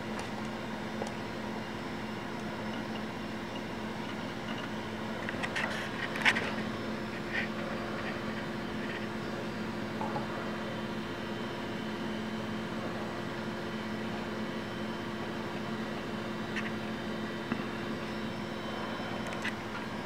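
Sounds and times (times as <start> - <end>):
computer fan and drive drone: 0.0 - 20.0
low even hum: 0.0 - 20.0.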